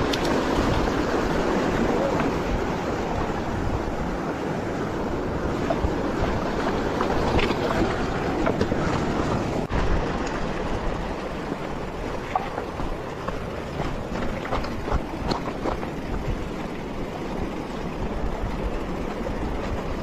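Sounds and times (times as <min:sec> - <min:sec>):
tyre water and wind noise: 0:00.0 - 0:20.0.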